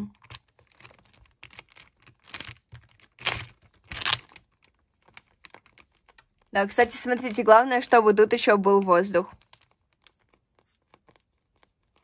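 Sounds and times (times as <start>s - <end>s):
adhesive tape crinkling: 0.1s - 7.6s, 8.8s - 12.0s.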